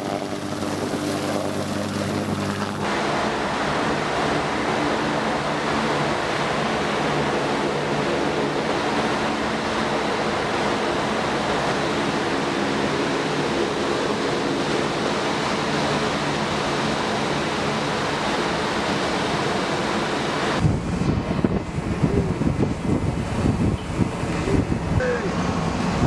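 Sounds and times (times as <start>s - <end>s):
hovercraft engine and spray roar: 0.0s - 26.0s
wind buffeting microphone: 0.0s - 26.0s.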